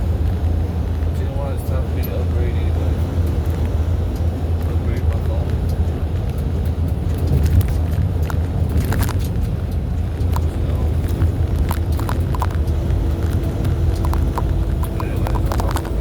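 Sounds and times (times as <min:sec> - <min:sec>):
rattles and clicks in cab: 0:00.0 - 0:16.0
truck engine and road rumble: 0:00.0 - 0:16.0.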